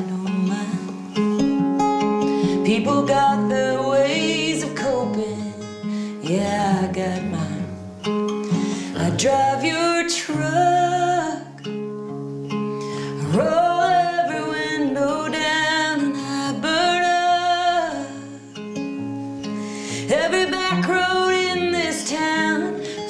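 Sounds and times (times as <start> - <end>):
woman singing ballad: 0.0 - 1.5, 2.1 - 11.7, 12.7 - 23.0
acoustic guitar: 0.0 - 23.0.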